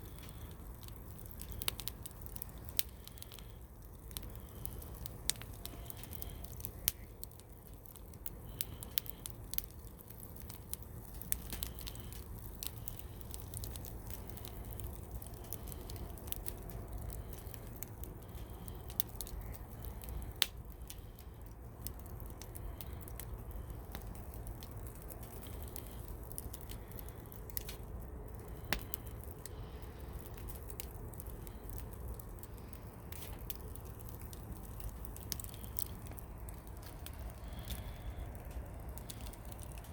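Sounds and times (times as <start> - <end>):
campfire crackling and popping: 0.0 - 39.9
low steady rumble: 0.0 - 39.9.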